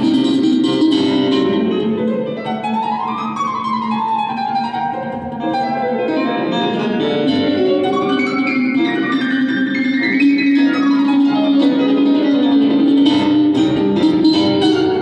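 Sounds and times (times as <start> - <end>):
mandolin: 0.0 - 15.0.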